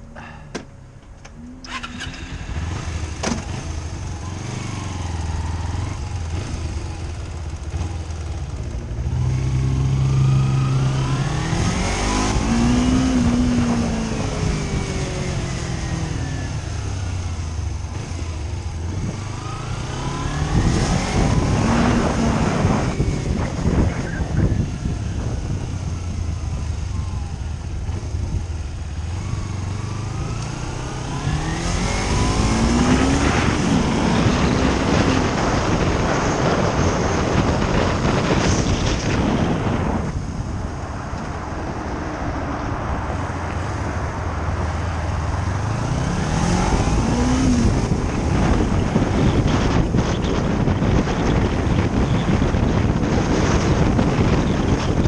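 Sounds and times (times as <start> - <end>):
road noise: 0.0 - 55.0
vehicle engine speeding up: 1.4 - 55.0.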